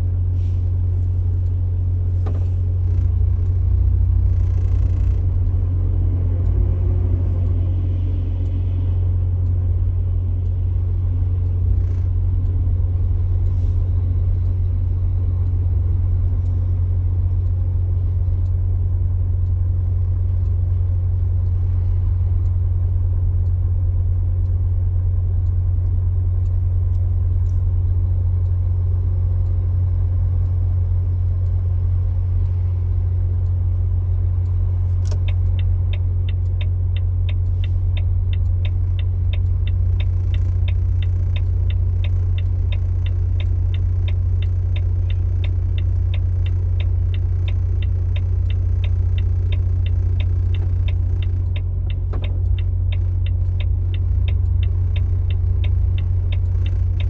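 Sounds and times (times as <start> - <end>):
engine and road drone: 0.0 - 57.0
regular ticking: 1.2 - 57.0.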